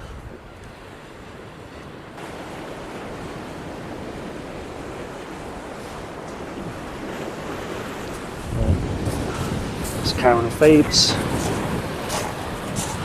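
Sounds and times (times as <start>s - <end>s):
sea surf breaking: 0.0s - 13.0s
strong wind: 0.0s - 13.0s.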